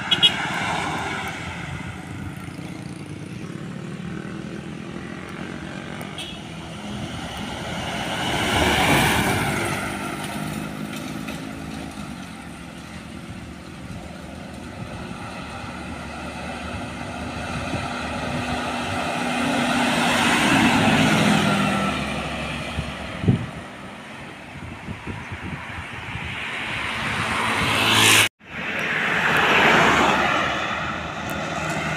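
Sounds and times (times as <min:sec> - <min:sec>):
motorcycles passing: 0:00.0 - 0:31.9
trucks passing: 0:00.0 - 0:31.9.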